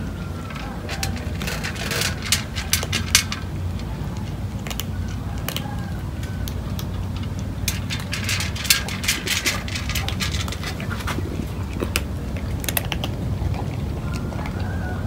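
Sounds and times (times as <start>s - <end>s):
cats crunching dry kibble: 0.0s - 15.0s
steady low hum: 0.0s - 15.0s.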